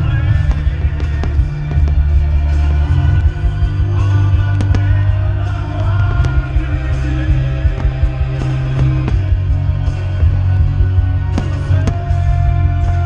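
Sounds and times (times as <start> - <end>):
deep rumble: 0.0 - 13.0
fireworks bursting with bangs: 0.0 - 13.0
music over a sound system: 0.0 - 13.0.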